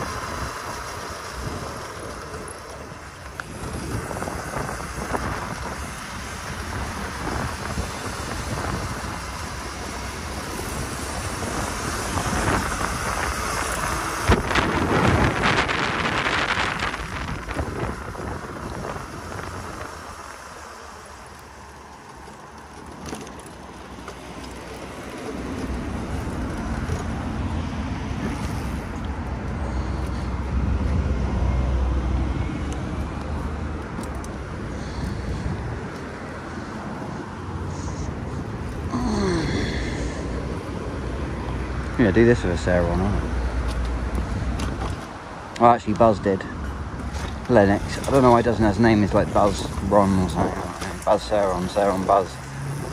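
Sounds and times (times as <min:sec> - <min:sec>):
wind rushing over microphone: 0:00.0 - 0:20.3, 0:25.7 - 0:52.9
tyre and running-gear noise: 0:00.0 - 0:52.9.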